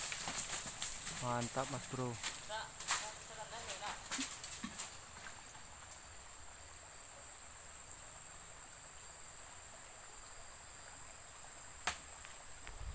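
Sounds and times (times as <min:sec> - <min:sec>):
faint insect chirring: 0:00.0 - 0:12.9
low background hiss: 0:00.0 - 0:12.9.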